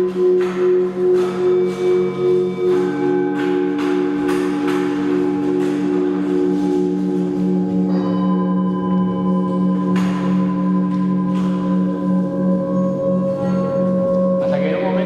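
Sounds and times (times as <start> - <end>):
singing bowl tones ringing: 0.0 - 15.0.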